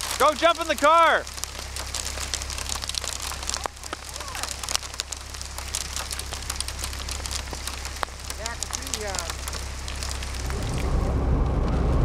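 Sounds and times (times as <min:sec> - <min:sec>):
hail pelting car windshield: 0:00.0 - 0:12.0.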